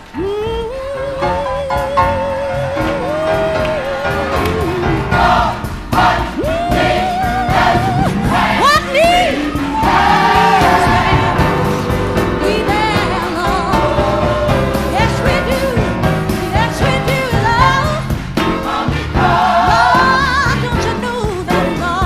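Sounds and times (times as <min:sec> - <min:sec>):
backing voices: 0:00.0 - 0:18.0
lead singer with vibrato: 0:00.0 - 0:18.2, 0:18.8 - 0:22.0
backing instruments: 0:00.0 - 0:22.0.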